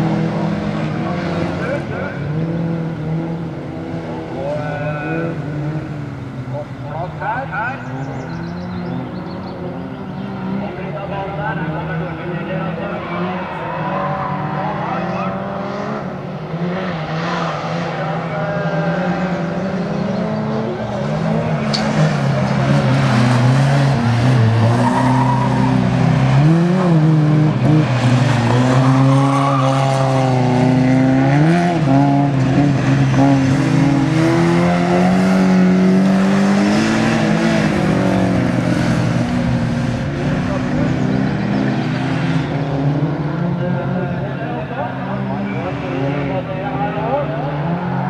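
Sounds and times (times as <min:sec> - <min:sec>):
racing car engines: 0:00.0 - 0:48.0.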